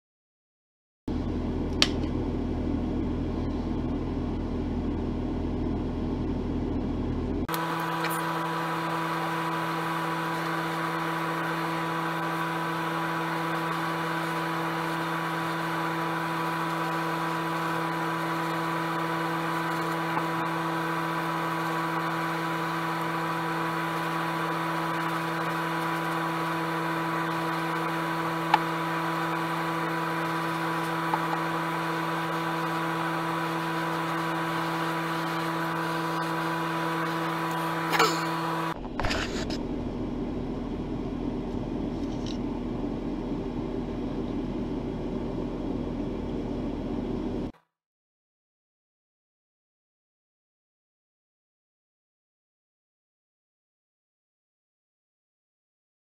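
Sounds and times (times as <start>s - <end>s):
electric motor humming and whining: 1.1s - 47.5s.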